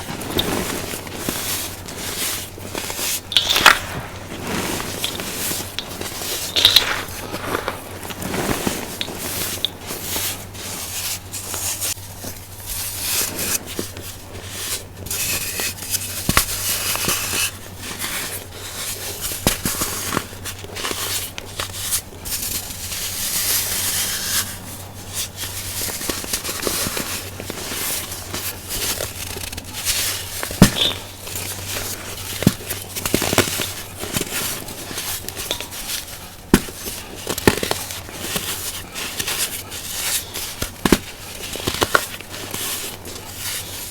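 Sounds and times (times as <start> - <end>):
baking soda crunching: 0.0 - 43.9.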